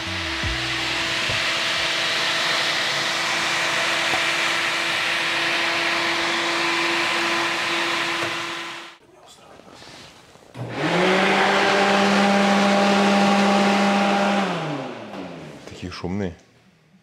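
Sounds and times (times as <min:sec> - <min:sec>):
cooling fans rushing air: 0:00.0 - 0:09.0, 0:10.6 - 0:15.8
fan motor hum: 0:00.0 - 0:09.0, 0:10.6 - 0:15.7.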